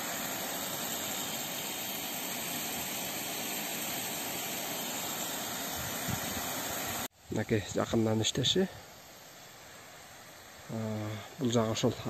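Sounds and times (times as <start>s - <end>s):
water spray hissing: 0.0s - 12.0s.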